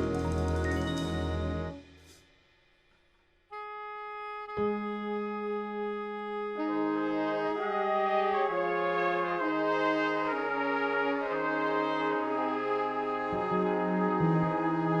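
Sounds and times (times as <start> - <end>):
brass ensemble chord: 0.0 - 2.1, 3.5 - 15.0.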